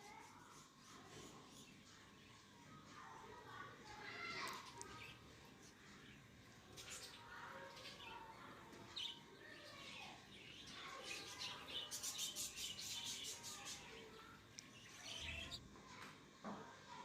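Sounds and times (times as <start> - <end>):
faint chirping of lovebirds: 0.0 - 16.0.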